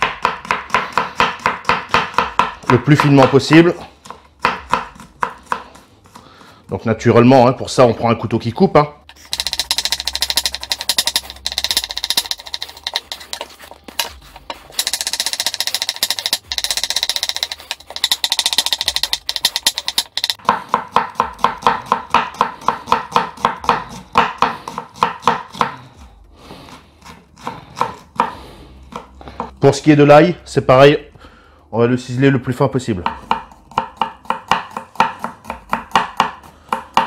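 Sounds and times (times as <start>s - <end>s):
knife chopping on wooden board: 0.0s - 6.5s, 9.1s - 26.0s, 26.7s - 29.6s, 33.0s - 37.0s.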